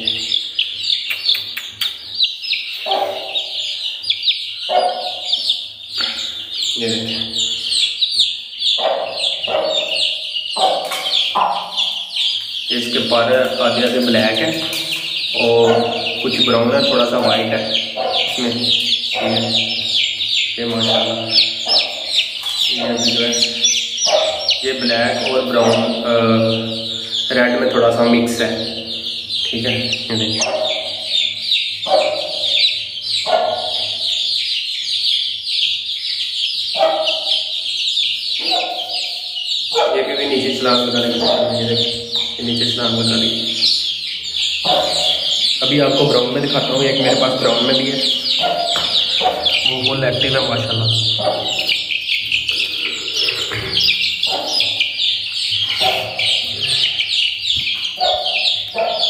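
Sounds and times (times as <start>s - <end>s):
chicks peeping: 0.0s - 59.0s
lower louder chick calls: 0.0s - 59.0s.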